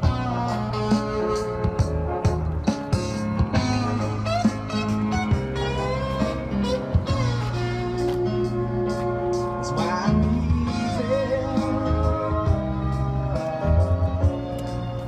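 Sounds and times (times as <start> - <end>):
guitar music with steady beat: 0.0 - 15.0.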